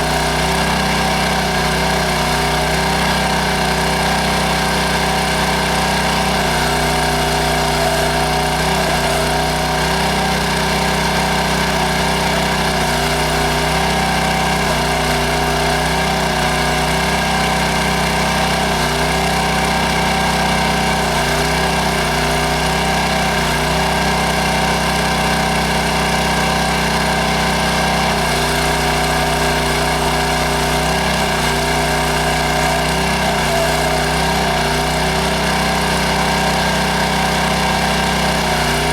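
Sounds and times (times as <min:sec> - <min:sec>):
small backhoe engine running: 0:00.0 - 0:38.9.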